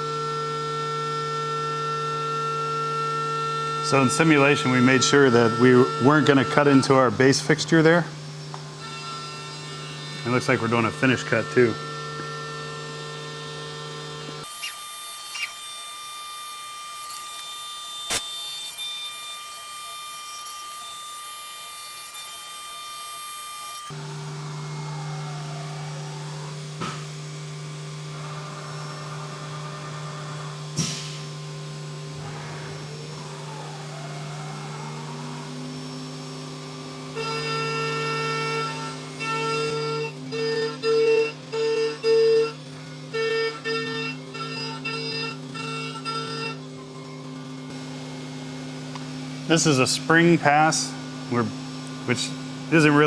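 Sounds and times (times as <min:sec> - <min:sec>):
cnc mill whine and hum: 0:00.0 - 0:53.0.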